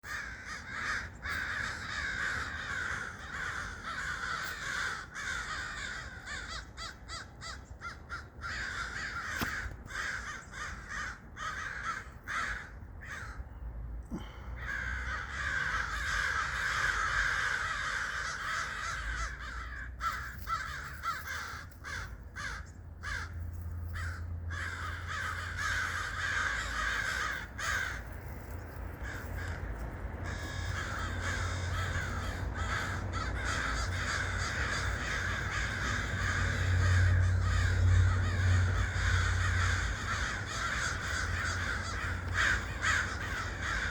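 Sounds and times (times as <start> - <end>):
flock of birds calling: 0.0 - 13.4, 14.6 - 23.4, 24.0 - 43.9.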